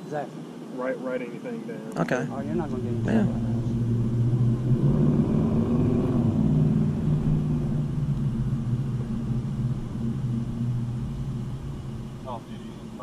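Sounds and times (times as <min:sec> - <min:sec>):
vehicle engine humming: 0:02.0 - 0:13.0.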